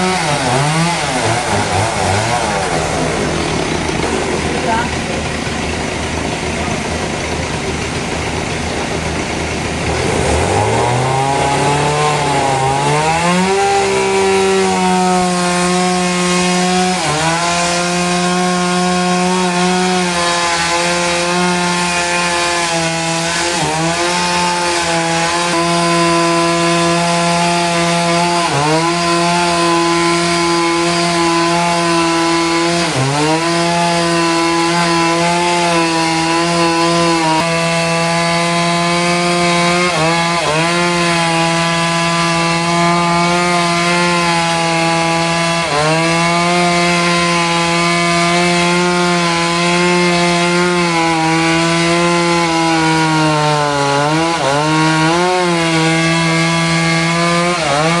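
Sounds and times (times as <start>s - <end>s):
power saw cutting log: 0.0s - 58.0s.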